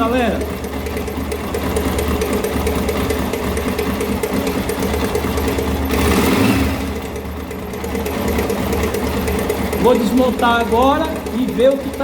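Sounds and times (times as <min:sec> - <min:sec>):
motorcycle engine clattering: 0:00.0 - 0:12.0.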